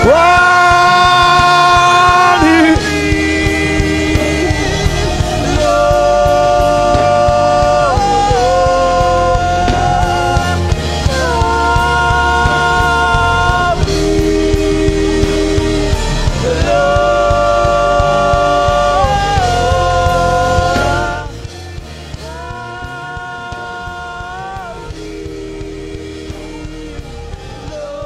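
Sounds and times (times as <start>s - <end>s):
church worship music with singing: 0.0s - 28.0s
steady drum beat: 0.0s - 28.0s.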